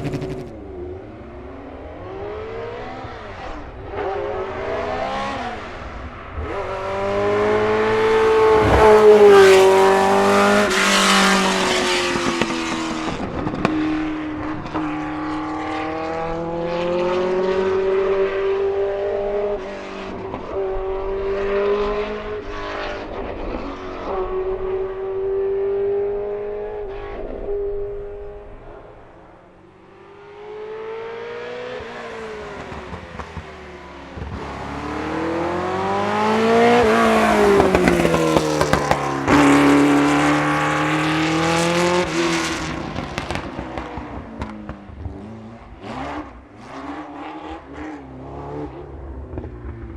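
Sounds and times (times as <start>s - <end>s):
racing car engine accelerating: 0.0s - 29.1s, 29.9s - 49.9s.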